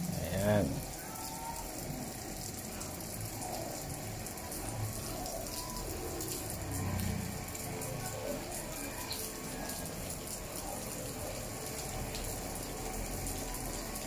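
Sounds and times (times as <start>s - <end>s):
water spraying from a hose: 0.0s - 14.0s.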